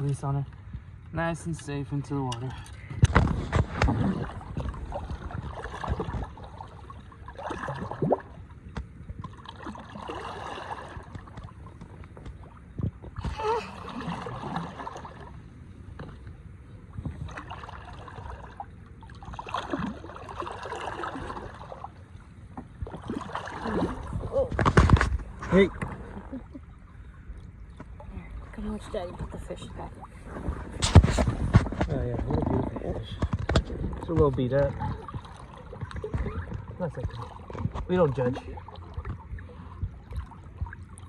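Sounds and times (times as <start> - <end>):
water splashing and sloshing: 0.0 - 41.0.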